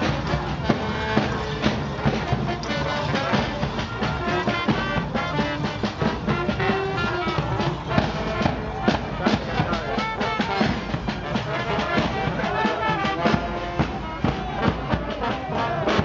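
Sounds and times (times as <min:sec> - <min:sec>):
music with steady beat: 0:00.0 - 0:16.0.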